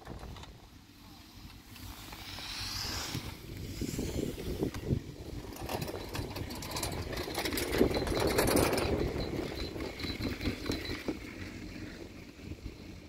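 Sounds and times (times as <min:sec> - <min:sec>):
chairlift rope low rumble: 0:00.0 - 0:13.0.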